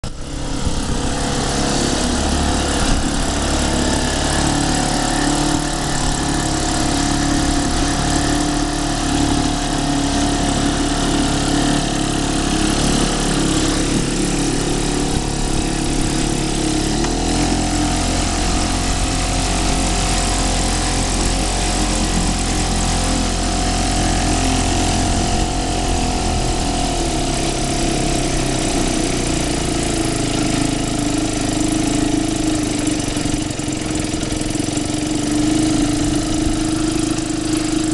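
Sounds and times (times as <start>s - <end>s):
two-stroke outboard motor running: 0.0s - 37.9s.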